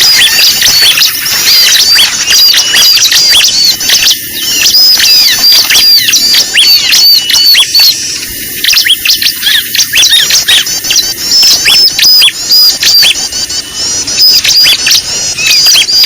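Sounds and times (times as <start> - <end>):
flock of small birds chirping: 0.0 - 16.0.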